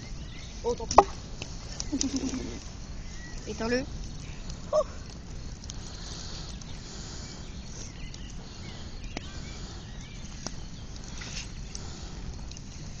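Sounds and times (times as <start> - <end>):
bonfire crackling: 0.0 - 13.0
fire popping sharply: 0.0 - 13.0.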